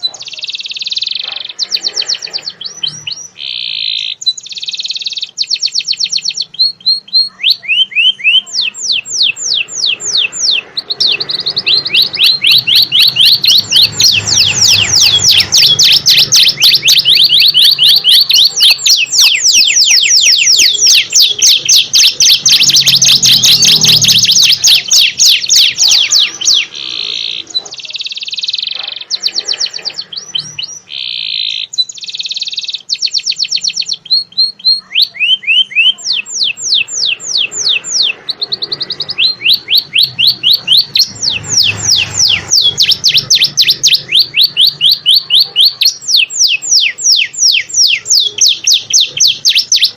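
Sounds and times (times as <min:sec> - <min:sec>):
songbird singing trills: 0:00.0 - 0:49.9.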